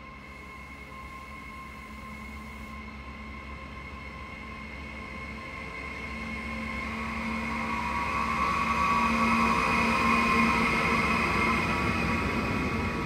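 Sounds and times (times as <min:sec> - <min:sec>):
locomotive high whine: 0:00.0 - 0:13.0.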